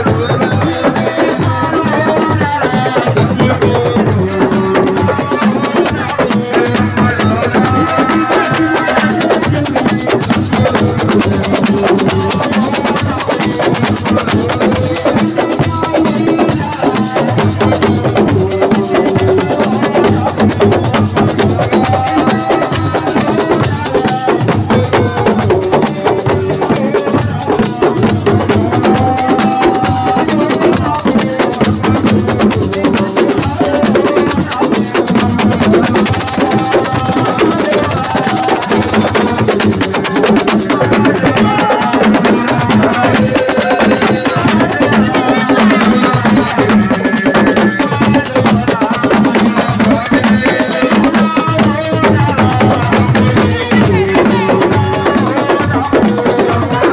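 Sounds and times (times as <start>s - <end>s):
voice or melody line: 0.0s - 31.2s, 31.9s - 56.9s
fast drumming and percussion: 0.0s - 56.9s.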